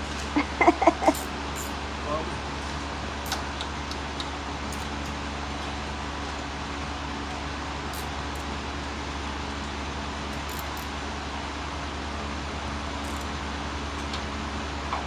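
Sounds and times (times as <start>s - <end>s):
generator engine running: 0.0s - 14.6s.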